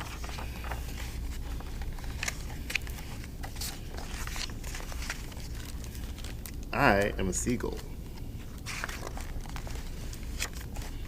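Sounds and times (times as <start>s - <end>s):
book pages rustling: 0.0s - 11.0s
low room hum: 0.0s - 11.0s.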